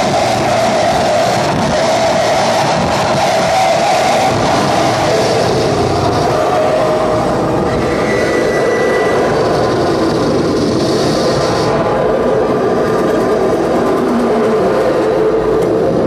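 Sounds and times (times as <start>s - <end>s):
wall of dense noise: 0.0s - 16.0s.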